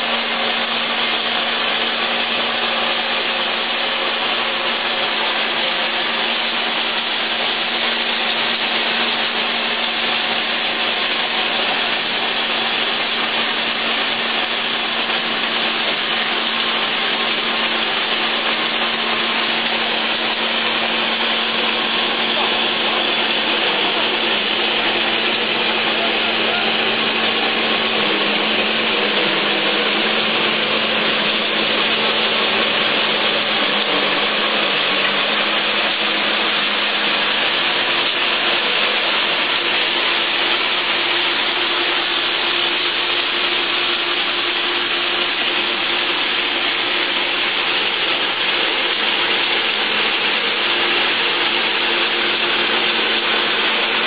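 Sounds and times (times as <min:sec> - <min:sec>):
machine whirring: 0:00.0 - 0:54.0
steady motor hum: 0:00.0 - 0:54.0.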